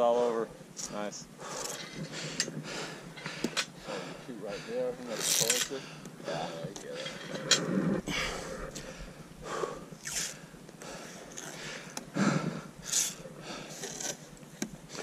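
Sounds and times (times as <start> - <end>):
person breathing heavily: 1.4 - 15.0.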